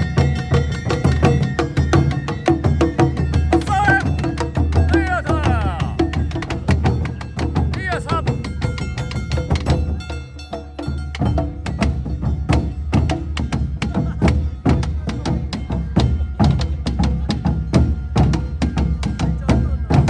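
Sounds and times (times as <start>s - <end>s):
held melodic tones: 0.0s - 18.9s
drums in fast rhythm: 0.0s - 20.0s.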